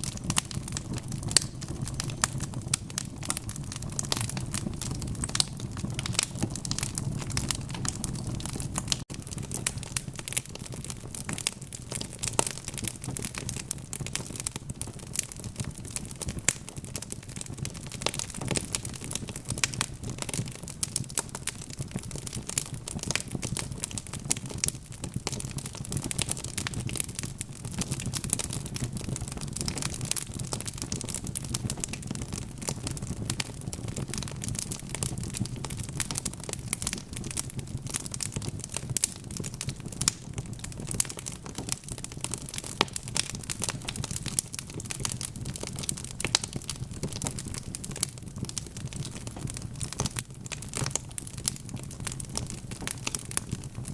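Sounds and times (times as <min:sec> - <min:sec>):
burning logs crackling and popping: 0:00.0 - 0:53.9
low rumble of flames: 0:00.0 - 0:53.9.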